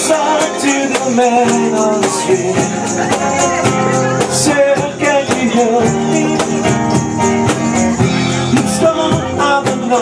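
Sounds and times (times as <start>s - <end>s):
hand percussion beat: 0.0s - 10.0s
nylon-string acoustic guitar: 0.0s - 10.0s.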